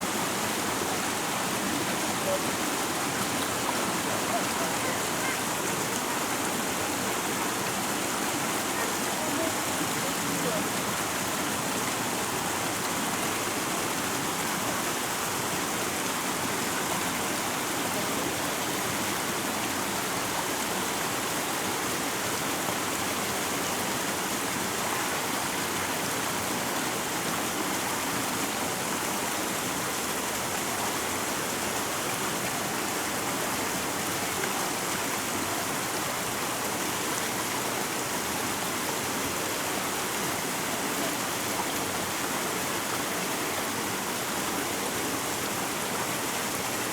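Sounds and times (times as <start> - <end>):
river rushing over stones: 0.0 - 46.9.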